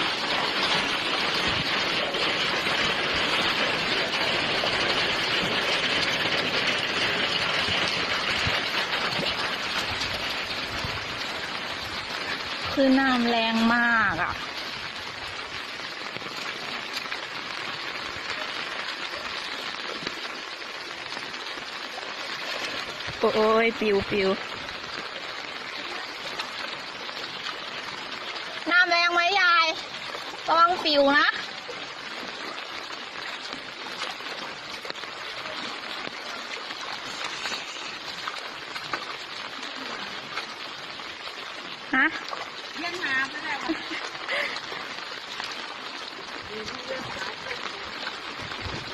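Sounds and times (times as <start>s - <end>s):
floodwater rushing: 0.0s - 48.9s
heavy rain: 0.0s - 48.9s
small water splashes: 0.0s - 48.9s.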